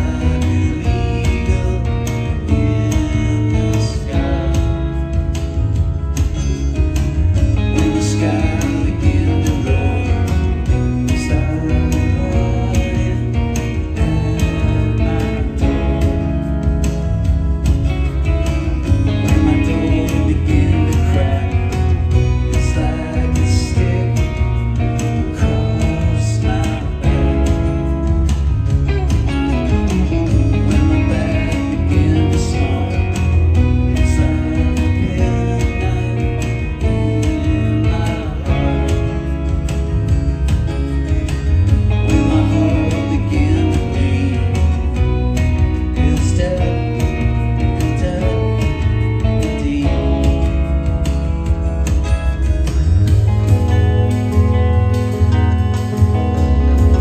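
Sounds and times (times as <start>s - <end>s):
person singing: 0.0s - 6.6s, 7.4s - 16.8s, 18.3s - 40.0s, 41.3s - 51.3s
live band playing: 0.0s - 57.0s
strummed acoustic guitar: 0.0s - 57.0s.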